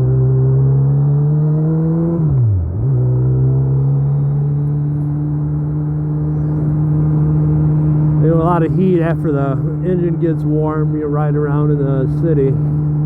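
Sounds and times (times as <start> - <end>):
motorcycle engine revving: 0.0 - 13.0
wind and road noise: 0.0 - 13.0.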